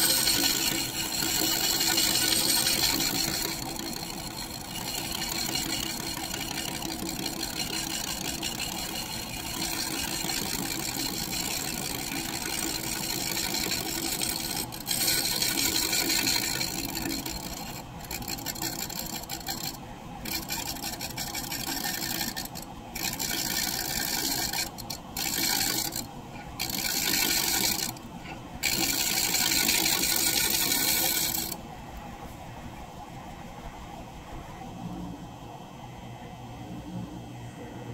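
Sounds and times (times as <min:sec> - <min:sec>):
scraper rasping on spinning wood: 0:00.0 - 0:31.6
wood lathe running: 0:00.0 - 0:31.6.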